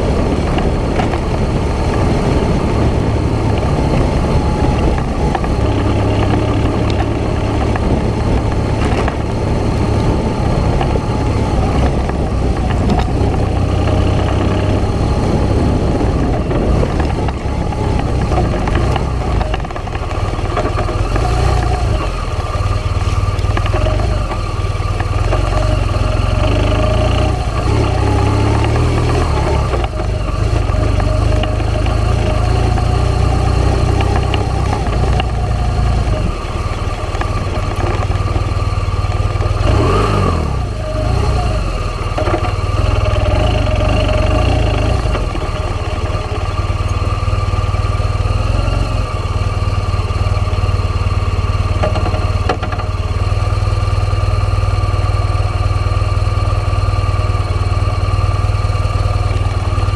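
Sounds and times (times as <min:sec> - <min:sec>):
small vehicle engine running: 0:00.0 - 0:59.9
wind rumble on microphone: 0:00.0 - 0:59.9.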